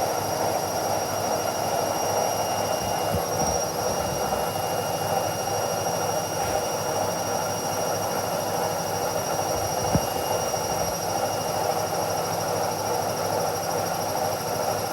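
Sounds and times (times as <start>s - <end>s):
washing machine running: 0.4s - 14.9s.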